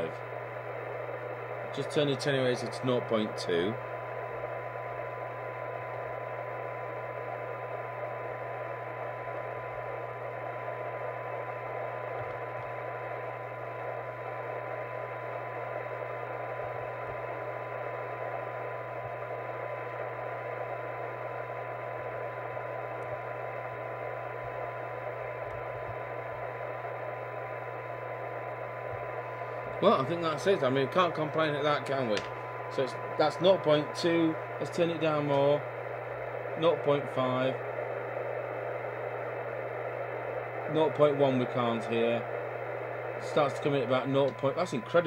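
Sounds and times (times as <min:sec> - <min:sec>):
faint steady test tone: 0:00.0 - 0:45.0
low steady hum: 0:00.0 - 0:45.0
radio receiver hiss: 0:00.0 - 0:45.0.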